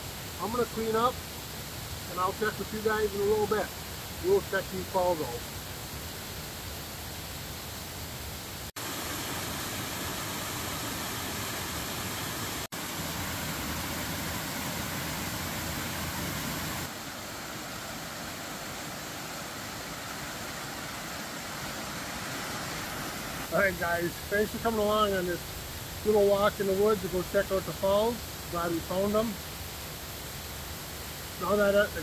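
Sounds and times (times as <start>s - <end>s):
waterfall rushing: 0.0s - 6.6s, 8.6s - 32.0s.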